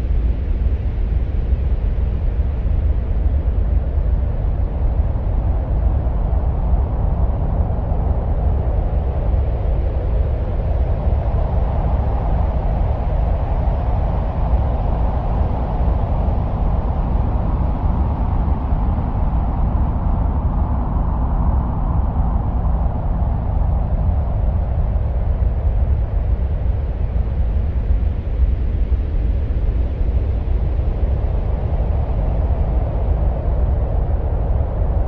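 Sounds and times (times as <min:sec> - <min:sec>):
deep wind-like rumble: 0:00.0 - 0:35.0.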